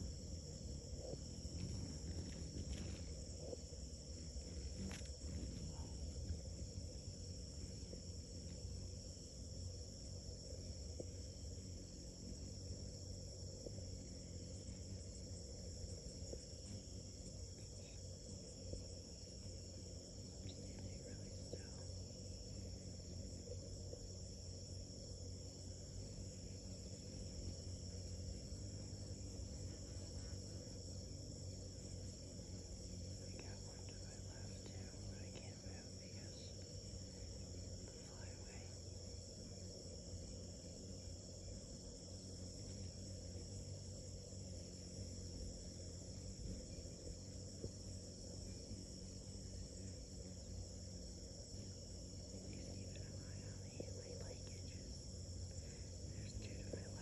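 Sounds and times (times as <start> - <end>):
high-pitched insect chorus: 0.0 - 57.0
low steady rumble: 0.0 - 57.0.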